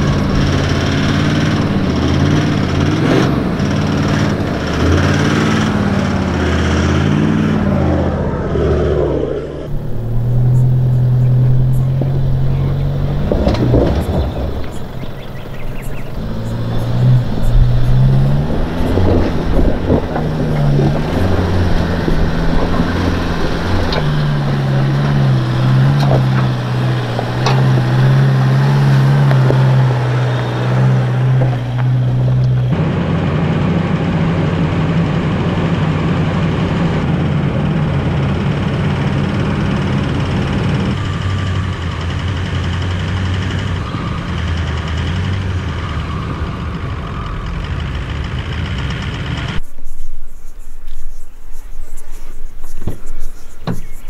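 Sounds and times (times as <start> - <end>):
engine idling steadily: 0.0 - 6.7, 9.4 - 54.0
diesel engine running: 0.0 - 54.0.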